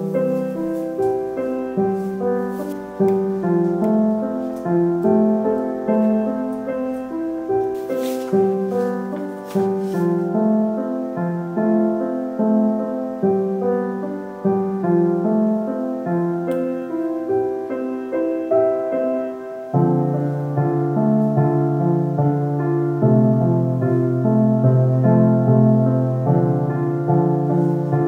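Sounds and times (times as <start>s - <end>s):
soft piano music: 0.0s - 28.0s.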